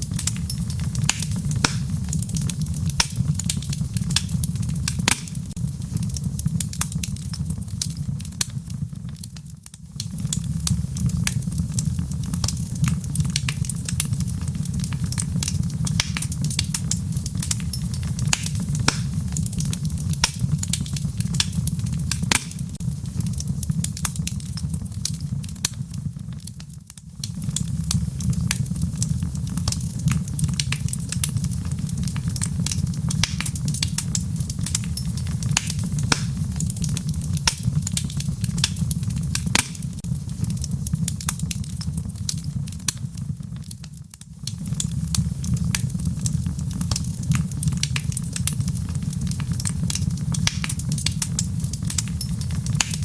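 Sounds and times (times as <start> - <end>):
sharp pops and snaps: 0.0 - 53.0
wood fire crackling: 0.0 - 53.0.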